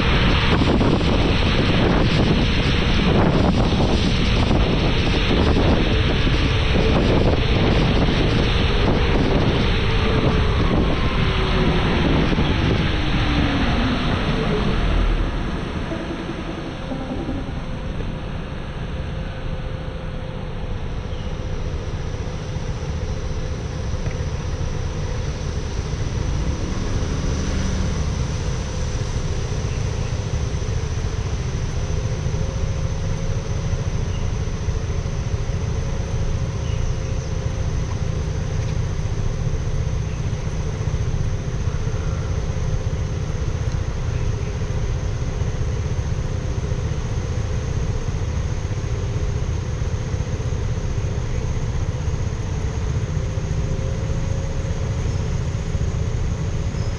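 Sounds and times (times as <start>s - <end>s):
car engine: 0.0s - 56.9s
road noise: 0.0s - 56.9s.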